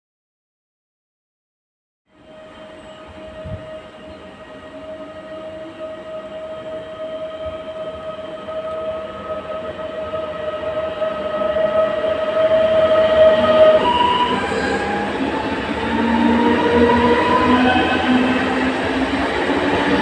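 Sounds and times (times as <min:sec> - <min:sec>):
train electric whine: 0:02.1 - 0:20.0
train running noise: 0:02.1 - 0:20.0.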